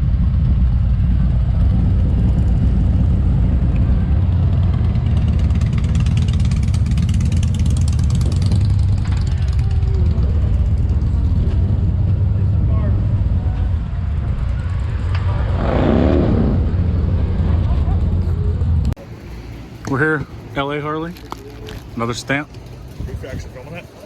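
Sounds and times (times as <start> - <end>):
wind noise: 0.0 - 19.0, 22.8 - 23.9
motorcycle engine rumbling: 0.0 - 24.0.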